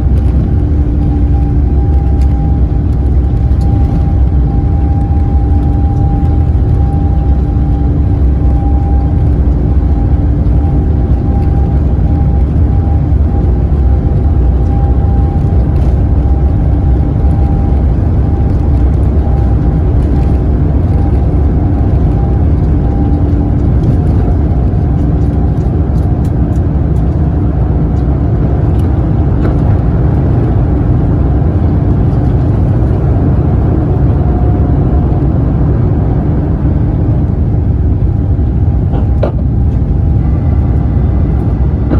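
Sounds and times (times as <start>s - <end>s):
jet engines at takeoff power: 0.0s - 41.9s.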